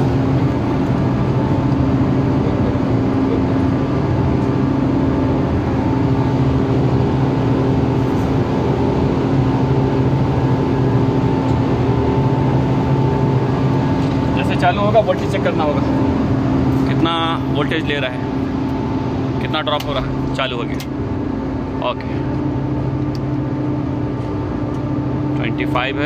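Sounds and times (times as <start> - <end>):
chiller equipment humming: 0.0 - 26.0.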